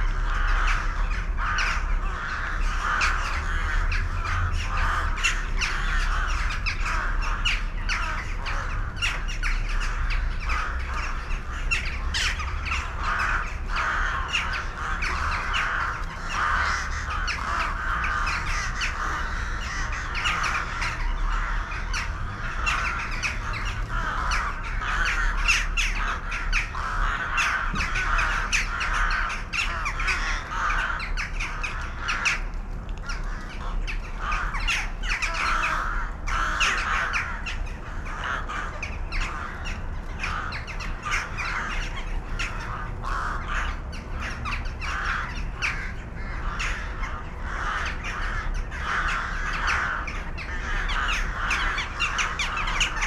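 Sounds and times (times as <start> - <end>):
crows cawing: 0.0 - 53.0.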